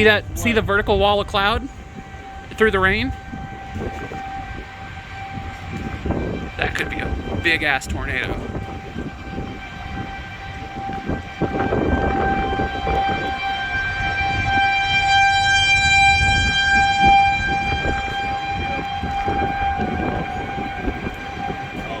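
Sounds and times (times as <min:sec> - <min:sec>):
low rumbling noise: 0:00.0 - 0:22.0
tornado warning siren: 0:00.0 - 0:22.0.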